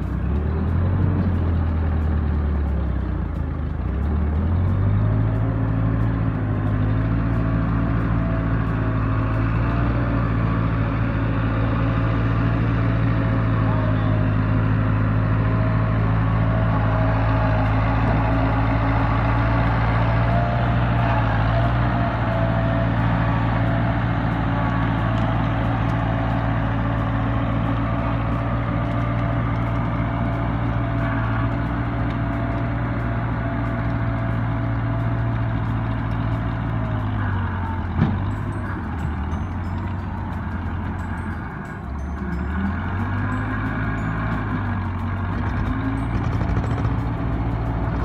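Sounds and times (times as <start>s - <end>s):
backhoe diesel engine running: 0.0s - 48.0s.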